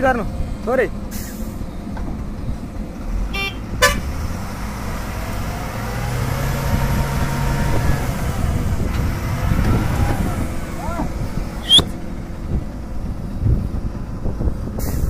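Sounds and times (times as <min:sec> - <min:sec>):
diesel engines rumbling: 0:00.0 - 0:15.0.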